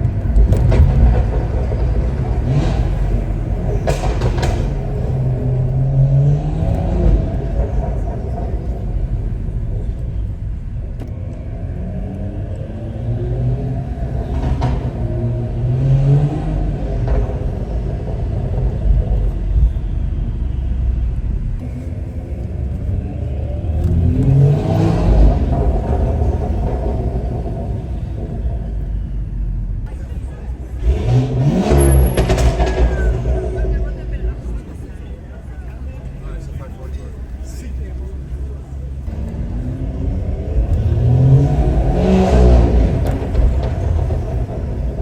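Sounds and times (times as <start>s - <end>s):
car engine accelerating hard: 0.0s - 45.0s
low exhaust rumble: 0.0s - 45.0s.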